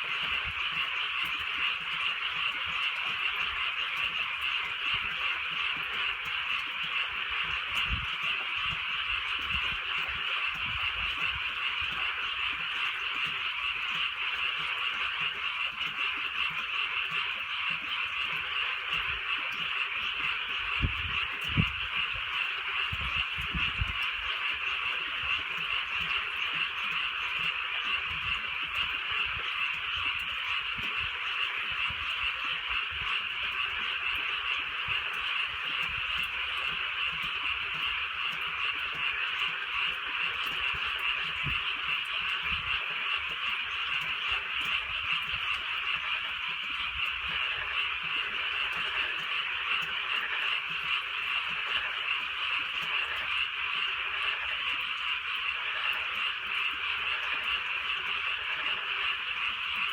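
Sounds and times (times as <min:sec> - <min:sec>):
chorus of frogs calling: 0:00.0 - 0:59.9.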